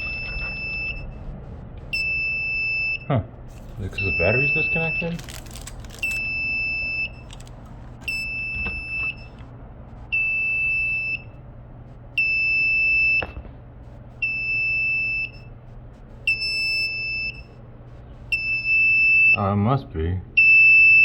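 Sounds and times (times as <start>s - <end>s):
fire alarm beeping: 0.0s - 9.4s, 10.0s - 11.4s, 12.2s - 13.4s, 14.0s - 19.4s, 20.4s - 21.0s.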